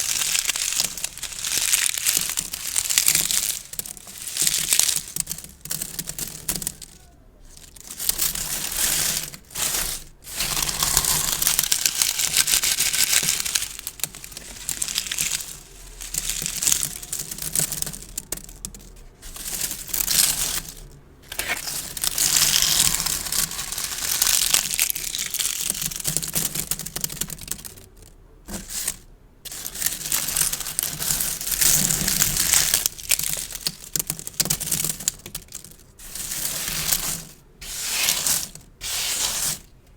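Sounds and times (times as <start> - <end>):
gift bows crinkling: 0.0 - 39.8.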